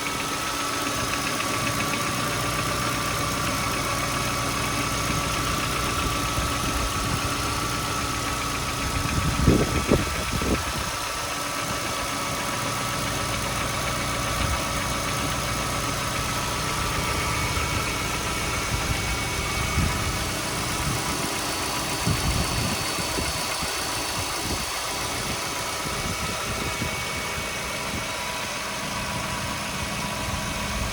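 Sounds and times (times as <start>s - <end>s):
engine knocking: 0.0s - 30.9s
petrol engine idling: 0.0s - 30.9s.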